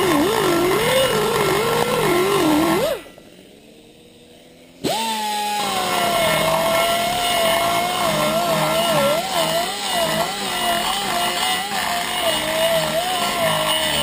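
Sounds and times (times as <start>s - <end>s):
die grinder whining: 0.0s - 14.0s.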